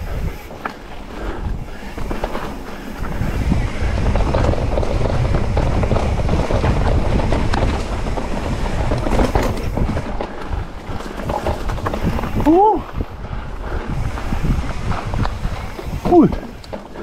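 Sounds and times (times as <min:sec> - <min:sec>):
bike rattling and clicking: 0:00.0 - 0:17.0
bike tyres rumbling over ground: 0:00.0 - 0:17.0
wind noise on microphone: 0:00.0 - 0:17.0.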